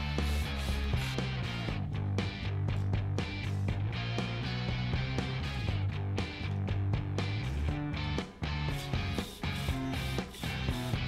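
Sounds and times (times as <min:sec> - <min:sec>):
guitar-driven rock music: 0:00.0 - 0:11.0.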